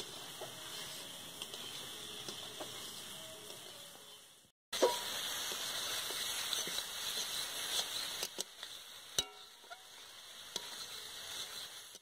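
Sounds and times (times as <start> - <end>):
greens sizzling in a pan: 0.0 - 12.0.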